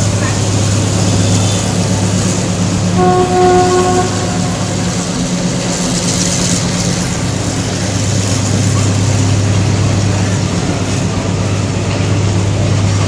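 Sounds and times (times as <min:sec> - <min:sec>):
freight train rumbling past: 0:00.0 - 0:13.0
low engine hum: 0:00.0 - 0:13.0.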